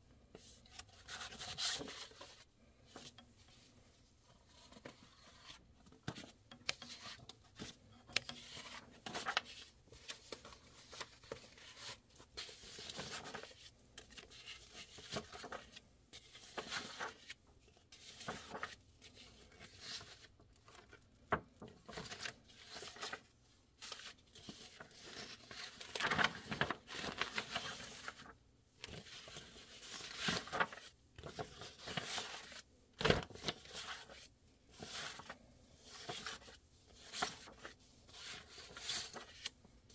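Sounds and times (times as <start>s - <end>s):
paper sheets rustling: 0.3s - 39.6s.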